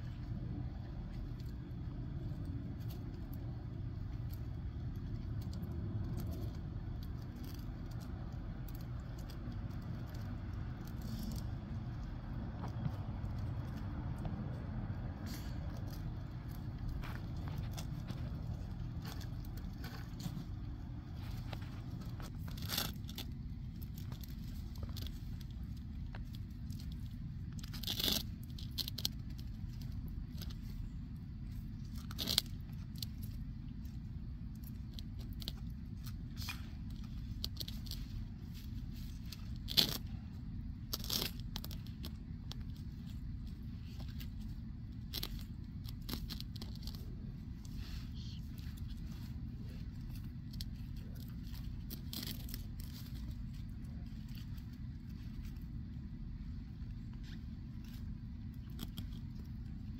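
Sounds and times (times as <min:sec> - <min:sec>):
steady low rumble: 0:00.0 - 0:59.9
tortoises crunching leaves: 0:00.0 - 0:59.9.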